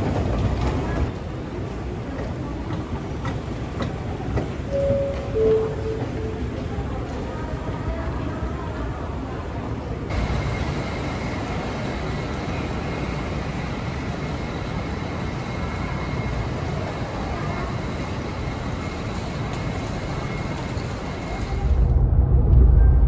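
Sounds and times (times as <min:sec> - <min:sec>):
steady traffic noise: 0:00.0 - 0:23.0.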